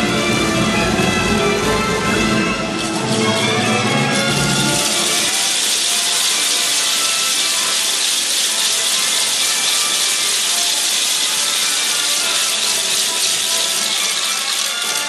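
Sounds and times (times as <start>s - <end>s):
music playing: 0.0s - 15.0s.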